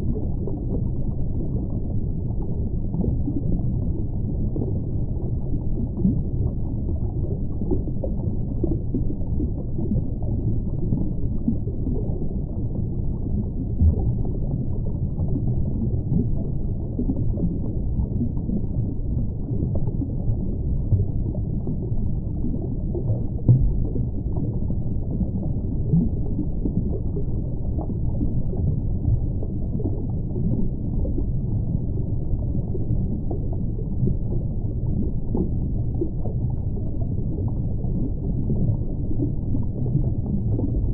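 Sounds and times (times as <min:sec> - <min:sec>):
gurgling water: 0:00.0 - 0:40.9
low underwater rumble: 0:00.0 - 0:40.9.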